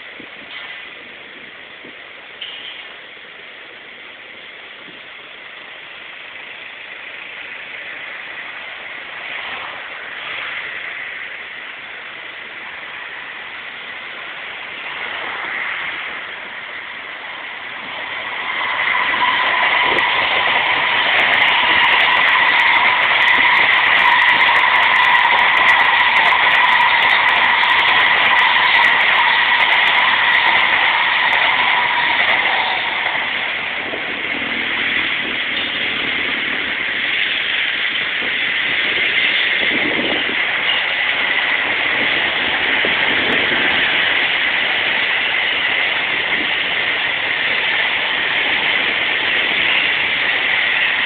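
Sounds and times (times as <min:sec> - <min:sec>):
road traffic: 0:00.0 - 0:51.0
train passing with high whine: 0:00.0 - 0:51.0.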